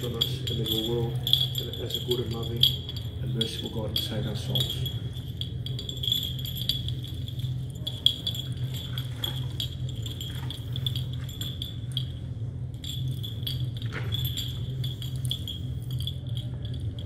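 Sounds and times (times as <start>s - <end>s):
low hum: 0.0s - 17.0s
metallic jingling and clinking: 0.0s - 17.0s.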